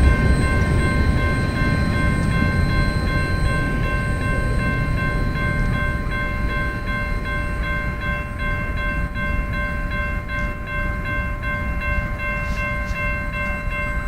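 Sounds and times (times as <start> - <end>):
low rumble of passing train: 0.0 - 14.0
railroad crossing bell ringing: 0.0 - 14.0.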